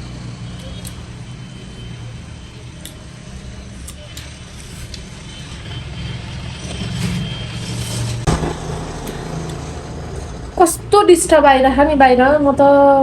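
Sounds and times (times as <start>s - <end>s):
construction machine engine running: 0.0s - 11.2s.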